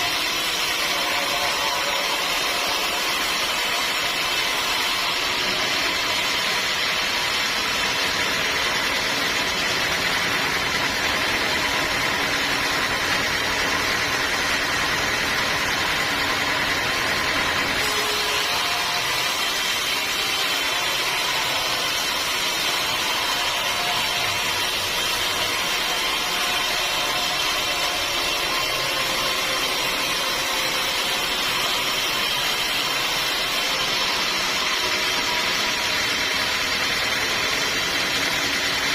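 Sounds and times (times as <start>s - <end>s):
high saw whine: 0.0s - 38.9s
sawmill machinery droning: 0.0s - 38.9s.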